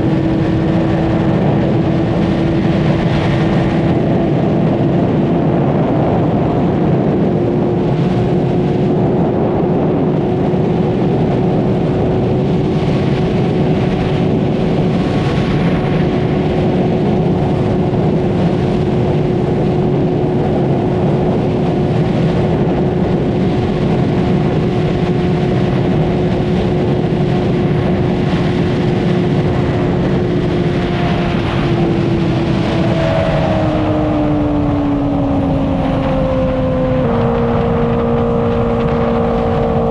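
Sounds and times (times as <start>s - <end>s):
motorcycle engine at high pitch: 0.0s - 39.9s
wind rushing: 0.0s - 39.9s.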